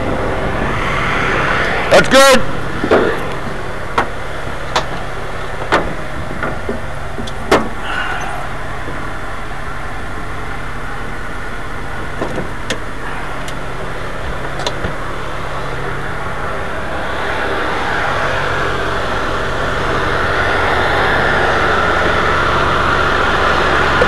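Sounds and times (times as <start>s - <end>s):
engine hum: 0.0s - 24.0s.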